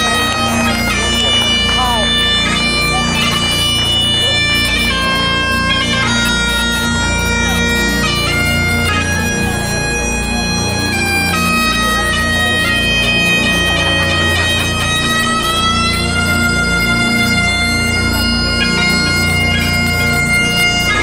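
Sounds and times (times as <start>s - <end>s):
bagpipes playing over drone: 0.0s - 21.0s.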